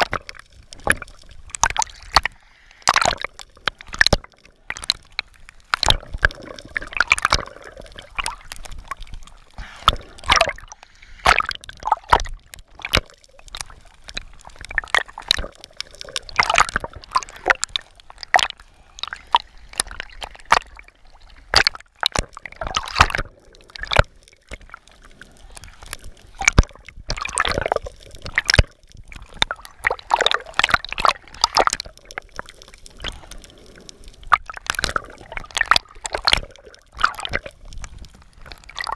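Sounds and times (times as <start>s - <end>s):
water sloshing and gurgling: 0.0s - 38.9s
water splashes: 0.0s - 38.9s.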